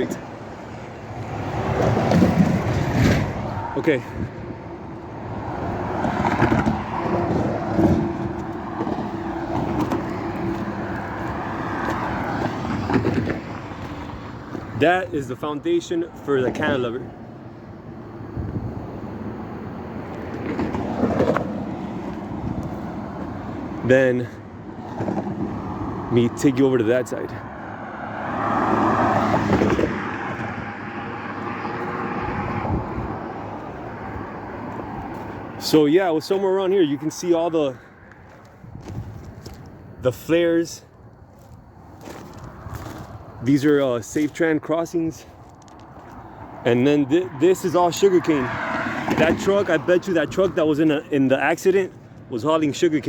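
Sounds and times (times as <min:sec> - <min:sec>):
cars passing on highway: 0:00.0 - 0:53.0.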